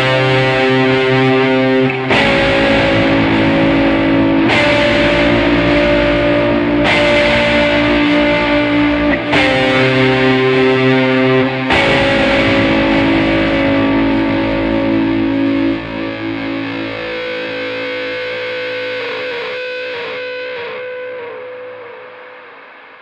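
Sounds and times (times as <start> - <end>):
distorted guitar chord ringing: 0.0 - 23.0.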